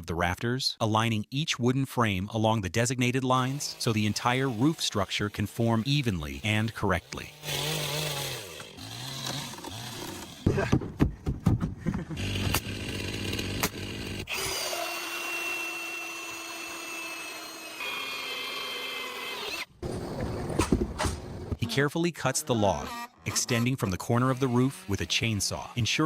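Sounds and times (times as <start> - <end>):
power saw cutting timber: 3.1 - 10.7, 12.1 - 26.0.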